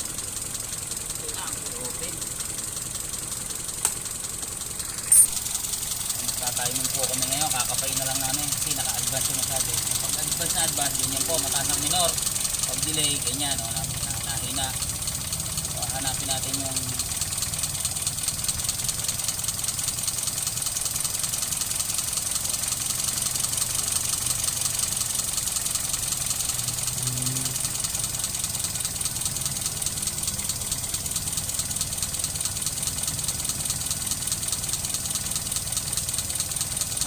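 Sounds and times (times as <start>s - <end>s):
engine idling roughly: 0.0s - 37.0s.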